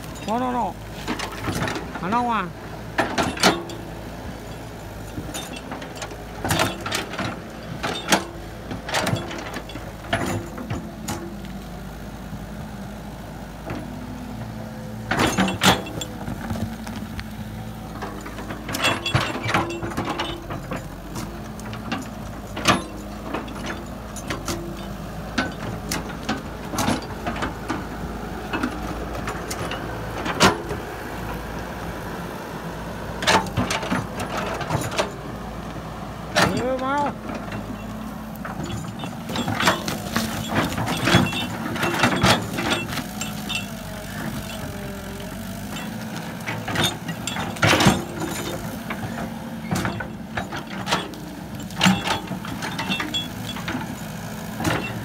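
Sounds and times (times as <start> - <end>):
clanks and knocks from tracks: 0.0 - 11.6, 13.6 - 31.4, 33.2 - 55.0
excavator diesel engine running: 0.0 - 55.0.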